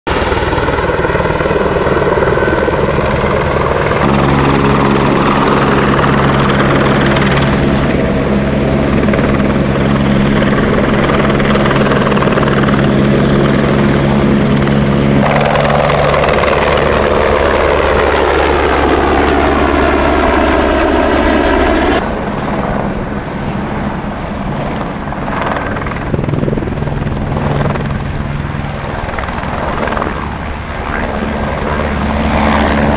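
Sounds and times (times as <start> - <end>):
helicopter rotor beating: 0.1 - 32.9
turbine whine: 0.1 - 32.9.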